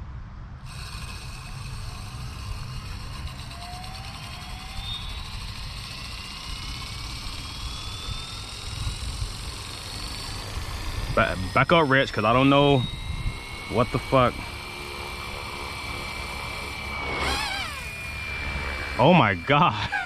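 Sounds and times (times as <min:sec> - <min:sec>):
rc helicopter motor and rotor whine: 0:00.6 - 0:20.0.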